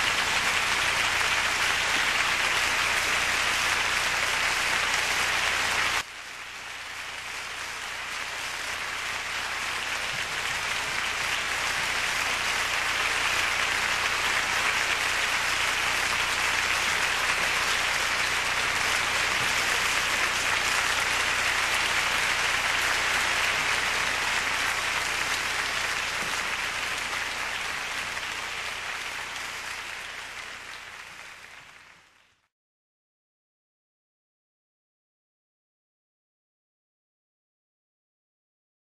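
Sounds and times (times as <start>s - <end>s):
audience applauding: 0.0s - 32.5s.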